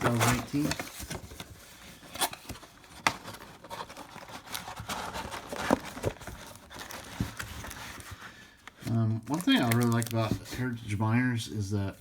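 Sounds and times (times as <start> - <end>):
plastic wrapping crinkling and tearing: 0.0 - 10.9.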